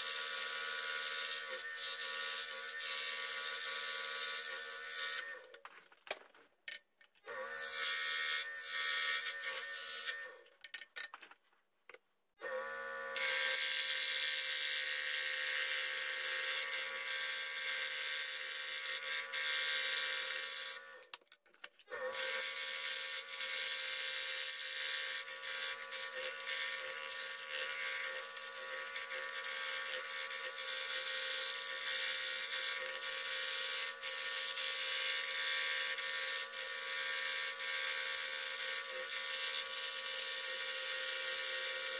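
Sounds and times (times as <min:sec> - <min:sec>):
scroll saw cutting wood: 0:00.0 - 0:05.6, 0:07.2 - 0:10.4, 0:12.4 - 0:21.1, 0:21.9 - 0:41.9.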